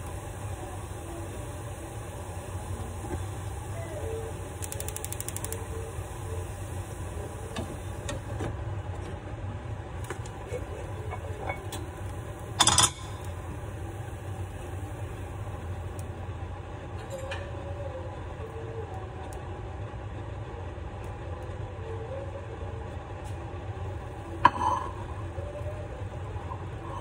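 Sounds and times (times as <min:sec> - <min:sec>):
low kitchen hum: 0:00.0 - 0:27.0.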